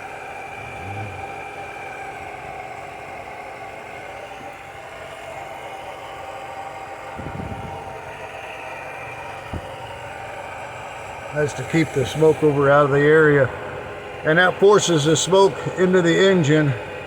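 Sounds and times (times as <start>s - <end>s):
small air compressor running: 0.0s - 1.6s, 2.2s - 16.4s.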